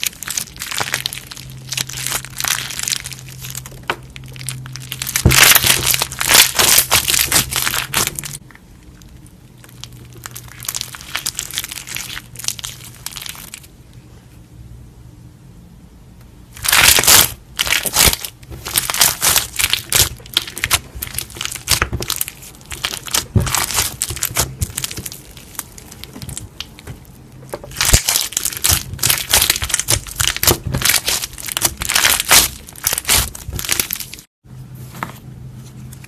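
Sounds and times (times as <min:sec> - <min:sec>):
slime crackling and popping: 0:00.0 - 0:13.7, 0:16.6 - 0:34.3.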